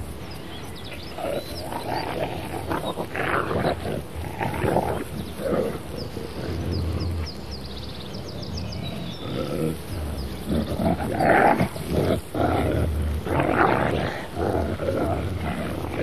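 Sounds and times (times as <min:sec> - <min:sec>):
wolves growling and snarling: 0:00.9 - 0:16.0.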